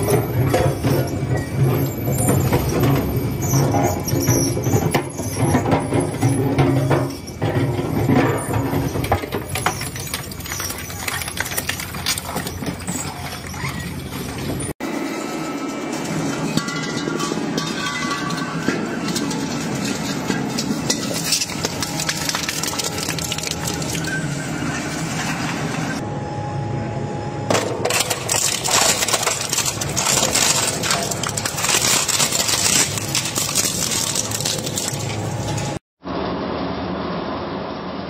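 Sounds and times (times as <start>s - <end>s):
cracking crunching and rattling: 0.0s - 14.8s, 15.9s - 25.2s, 27.5s - 35.8s.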